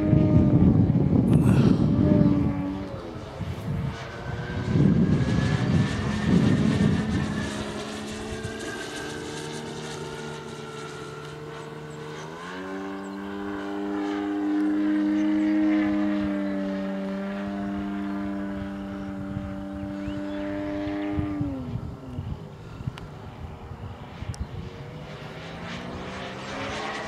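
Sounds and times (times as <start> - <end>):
model plane engine running: 0.0 - 27.0
wind gusts on microphone: 0.0 - 27.0.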